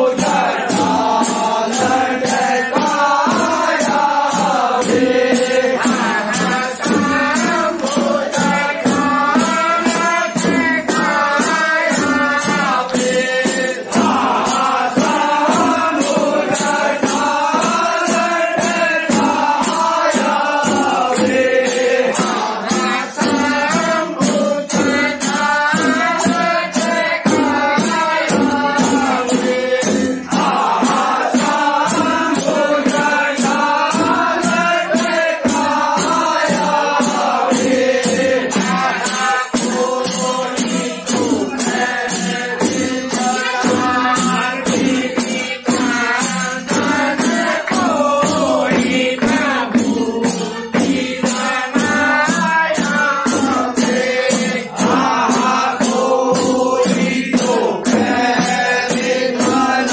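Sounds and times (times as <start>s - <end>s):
high percussion strokes: 0.0s - 59.9s
men singing a folk song: 0.0s - 59.9s.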